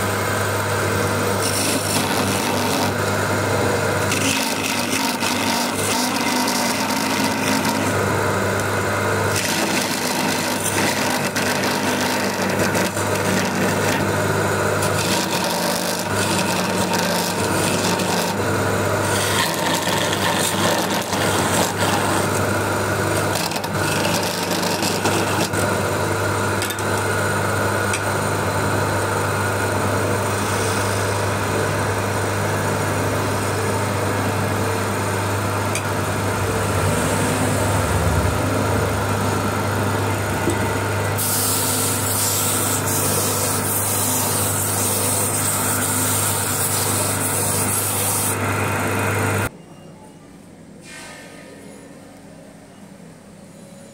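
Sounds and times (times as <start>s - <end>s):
chisel scraping spinning wood: 0.0s - 49.5s
lathe motor humming: 0.0s - 49.5s.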